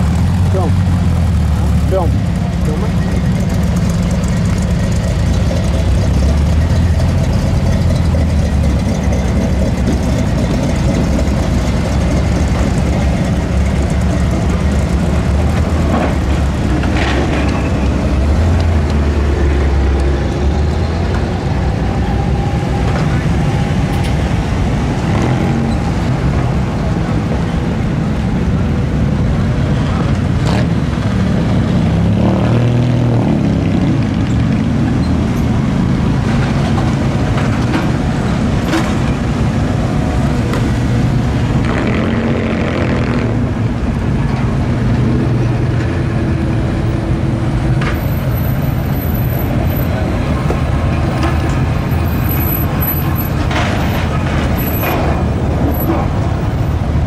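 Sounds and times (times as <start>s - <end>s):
car engines driving past: 0.0s - 57.0s.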